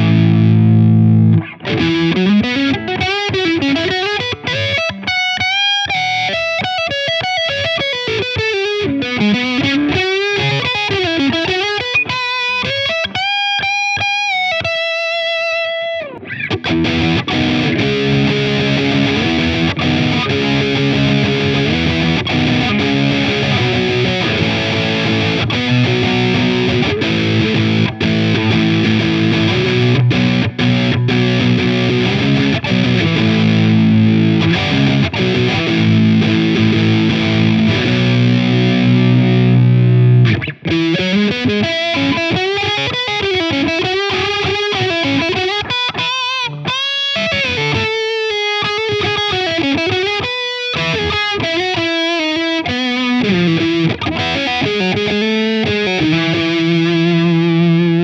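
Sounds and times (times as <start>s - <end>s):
distorted electric guitar chords: 0.0s - 58.0s
electric guitar lead lines: 0.0s - 58.0s.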